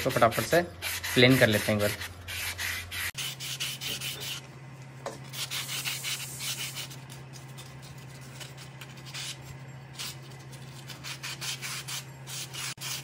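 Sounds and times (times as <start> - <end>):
sandpaper scraping metal: 0.0 - 4.4, 5.3 - 13.0.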